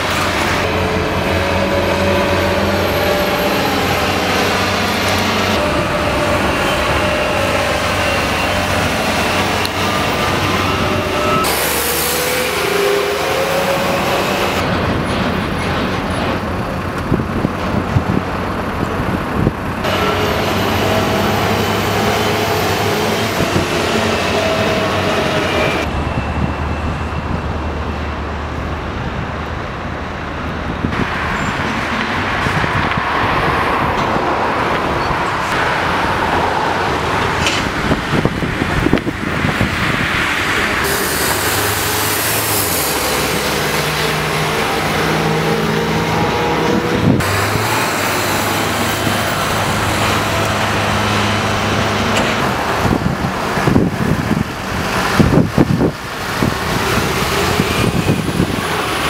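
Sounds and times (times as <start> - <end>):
heavy vehicle engine hum: 0.0 - 59.0.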